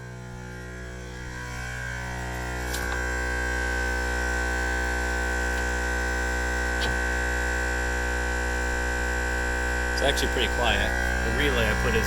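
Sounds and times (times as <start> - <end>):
air compressor humming and whining: 0.0 - 12.0.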